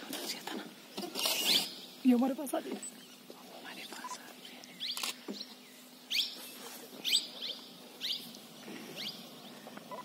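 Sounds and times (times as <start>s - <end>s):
birds chirping: 0.3s - 10.0s.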